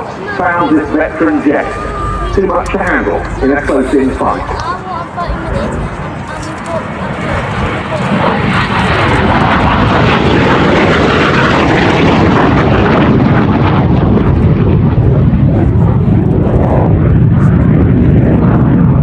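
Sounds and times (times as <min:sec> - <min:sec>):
jet fighter flying past: 0:00.0 - 0:15.7.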